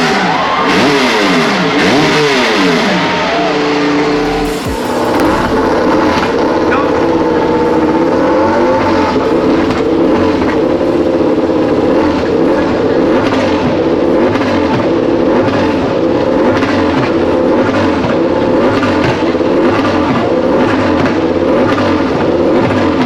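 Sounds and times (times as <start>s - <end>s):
race bike engine revving: 0.0s - 23.0s.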